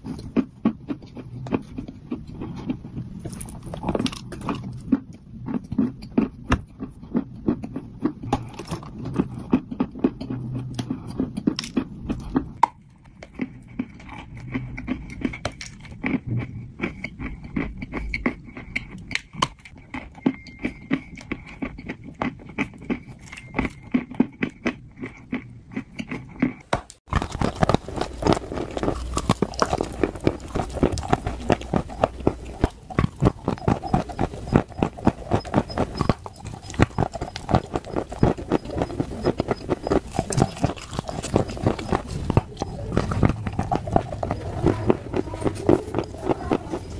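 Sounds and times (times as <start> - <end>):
chewing crunchy clay: 0.0 - 46.9.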